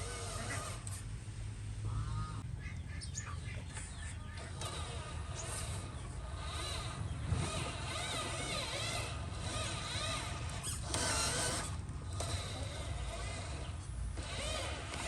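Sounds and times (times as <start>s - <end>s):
small electric motors whining: 0.0s - 1.2s, 3.8s - 15.0s.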